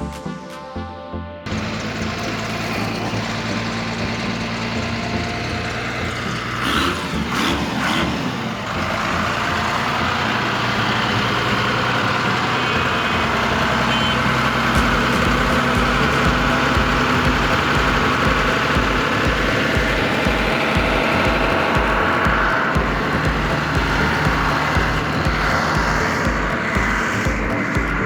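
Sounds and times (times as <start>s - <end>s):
engine idling: 1.5s - 28.0s.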